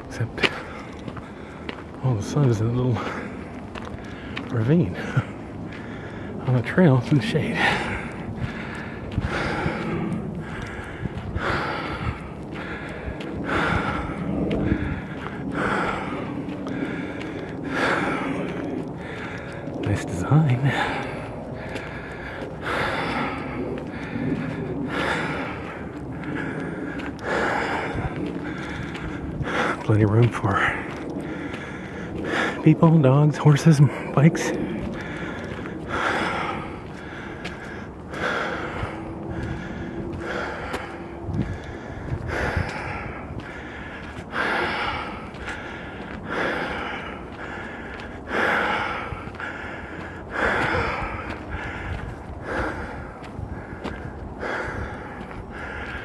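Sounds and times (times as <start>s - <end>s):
person breathing hard: 0.0s - 2.0s, 2.6s - 56.0s.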